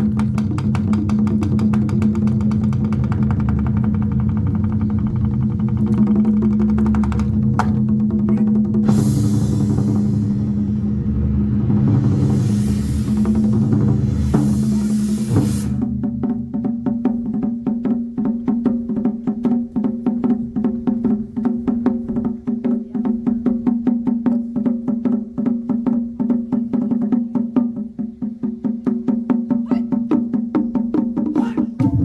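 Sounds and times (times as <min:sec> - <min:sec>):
percussion ensemble playing: 0:00.0 - 0:32.0.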